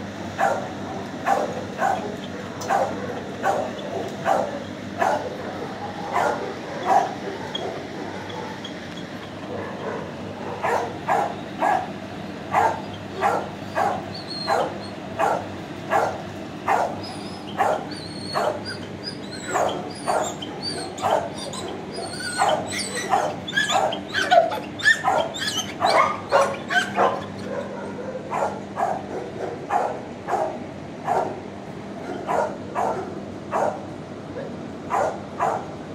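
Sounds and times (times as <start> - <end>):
steady low hum: 0.0 - 35.9
dogs barking: 0.3 - 35.8
dogs yipping: 0.4 - 31.4, 32.0 - 35.7.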